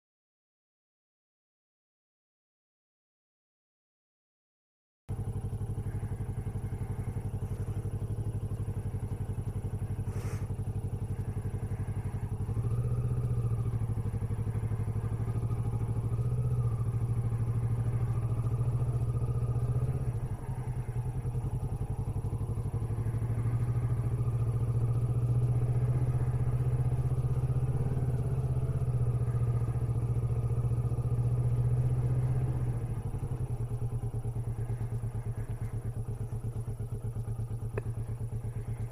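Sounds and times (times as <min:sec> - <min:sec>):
motorcycle engine running: 0:05.1 - 0:38.9.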